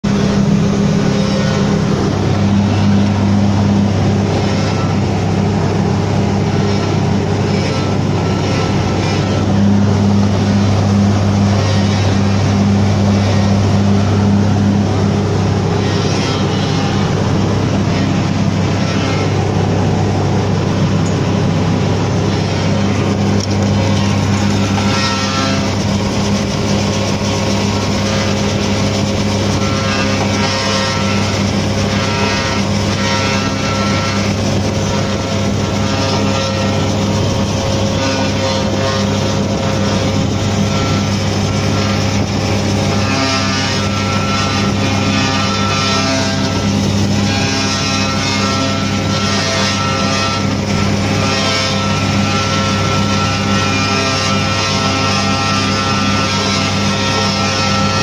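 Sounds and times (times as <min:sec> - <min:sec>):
heavy engine drone: 0:00.0 - 0:58.0
rattle and whir of chain drives: 0:00.0 - 0:58.0.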